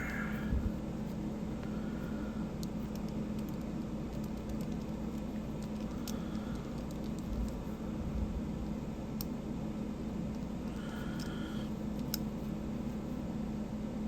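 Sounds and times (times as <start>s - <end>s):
low background hum and hiss: 0.0s - 14.0s.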